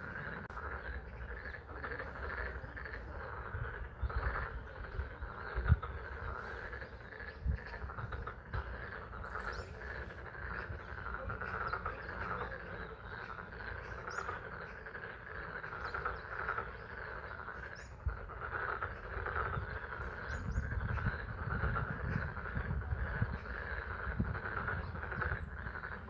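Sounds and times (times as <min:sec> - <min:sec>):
frogs calling in pulsing trill: 0:00.0 - 0:26.0.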